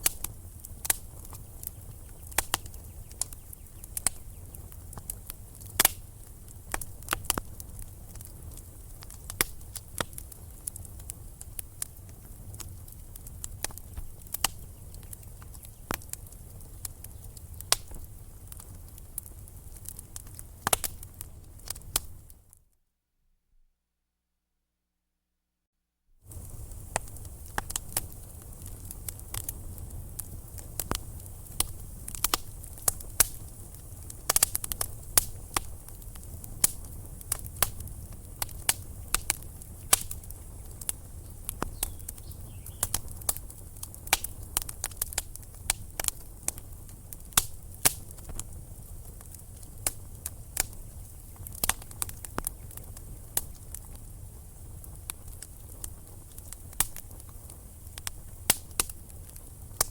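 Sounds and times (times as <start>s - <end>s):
wood fire crackling and popping: 0.0s - 22.6s, 26.2s - 59.9s.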